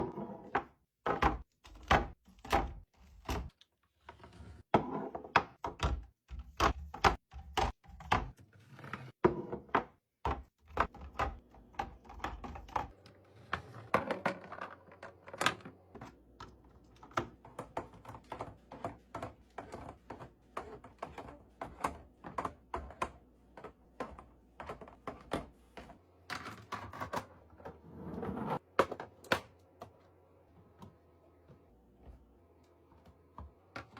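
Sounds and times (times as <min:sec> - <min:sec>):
items knocking and thunking: 0:00.0 - 0:03.5, 0:09.2 - 0:27.8, 0:28.6 - 0:33.9.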